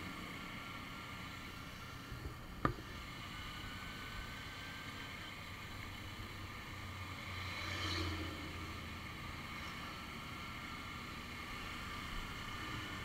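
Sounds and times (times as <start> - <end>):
motorcycle engine drone: 0.0 - 13.0.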